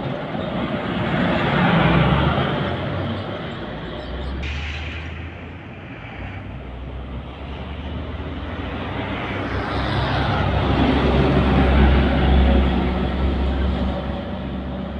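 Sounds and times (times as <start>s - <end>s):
heavy truck engine humming: 0.0s - 14.9s
road traffic: 0.0s - 14.9s.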